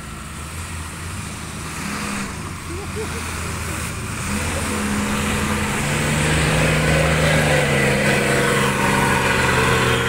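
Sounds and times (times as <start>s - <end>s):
diesel truck engine revving: 0.0s - 10.0s.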